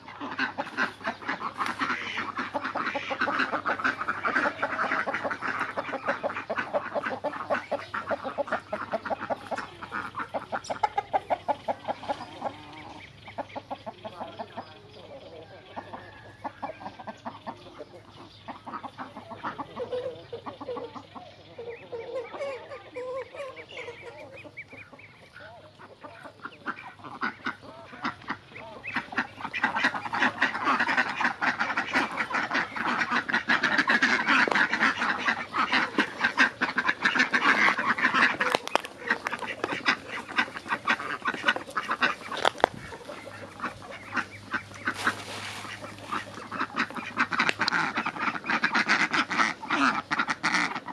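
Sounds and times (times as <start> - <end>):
chickens clucking: 0.0 - 50.9
ducks quacking: 0.0 - 50.9.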